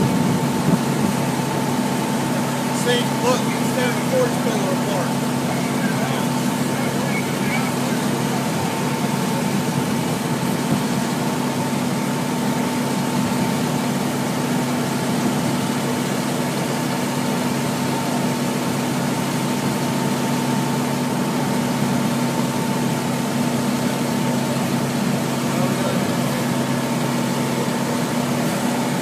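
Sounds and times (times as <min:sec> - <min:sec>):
fire engine running: 0:00.0 - 0:29.0.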